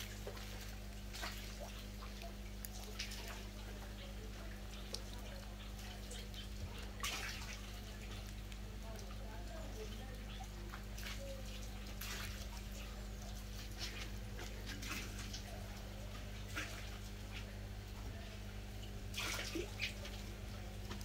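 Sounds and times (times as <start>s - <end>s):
fish splashing at water surface: 0.0s - 18.0s, 18.6s - 21.0s
steady low hum: 0.0s - 21.0s.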